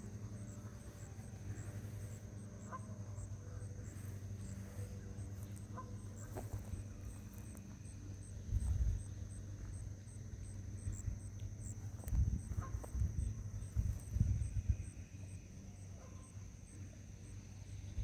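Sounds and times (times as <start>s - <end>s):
wind rumble on microphone: 0.0s - 15.3s
insect high chirp: 0.0s - 18.0s
insect high drone: 0.0s - 18.0s
steady low hum: 0.0s - 18.0s.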